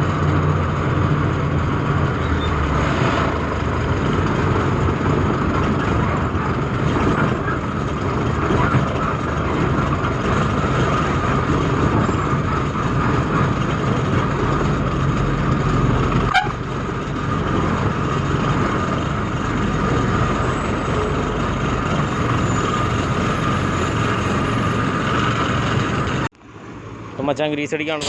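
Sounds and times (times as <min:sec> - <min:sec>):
truck diesel engine rumbling: 0:00.0 - 0:28.0.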